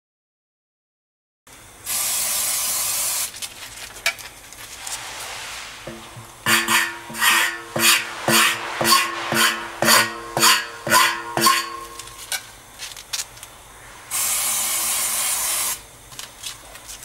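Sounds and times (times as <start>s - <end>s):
steady hiss: 1.8s - 17.0s.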